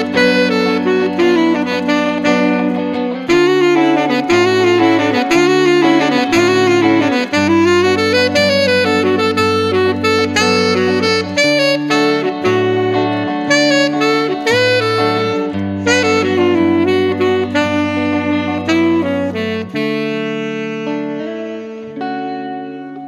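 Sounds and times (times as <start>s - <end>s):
electric guitar chords: 0.0s - 23.0s
saxophone melody: 0.0s - 23.0s.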